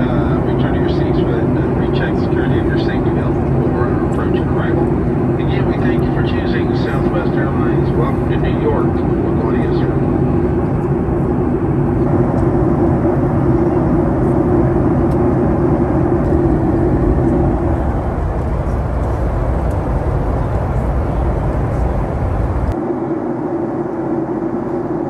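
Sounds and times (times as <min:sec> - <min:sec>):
constant low hum: 0:00.0 - 0:25.0
jet engines and airflow rumbling: 0:00.0 - 0:25.0.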